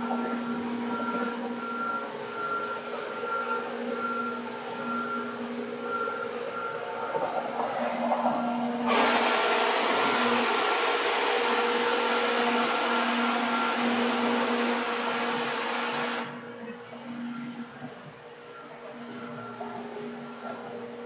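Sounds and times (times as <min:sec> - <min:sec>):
electric train traction hum: 0:00.0 - 0:21.0
wheel-on-rail noise: 0:00.0 - 0:21.0.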